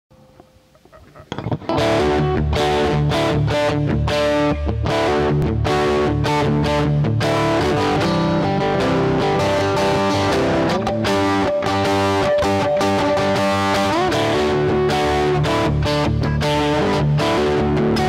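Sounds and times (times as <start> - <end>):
distorted electric guitar riff: 0.2 - 18.0.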